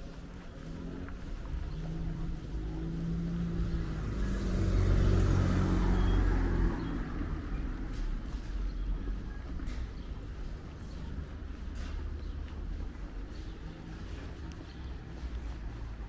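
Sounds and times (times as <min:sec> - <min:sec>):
vehicle engine passing by: 0:00.0 - 0:16.0.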